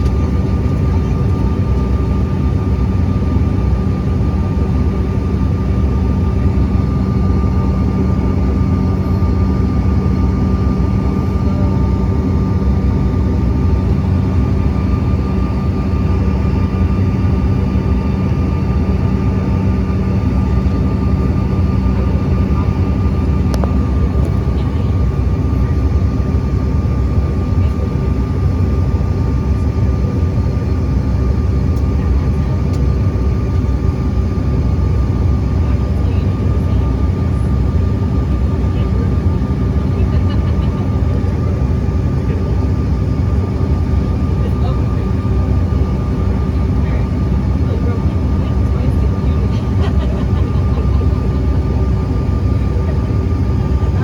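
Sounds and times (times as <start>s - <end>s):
constant engine whine: 0.0s - 54.0s
jet engine rumble in cabin: 0.0s - 54.0s.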